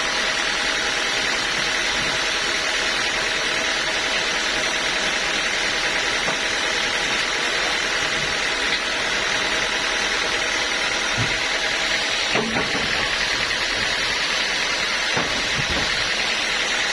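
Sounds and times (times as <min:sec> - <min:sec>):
sawmill machinery humming: 0:00.0 - 0:16.9.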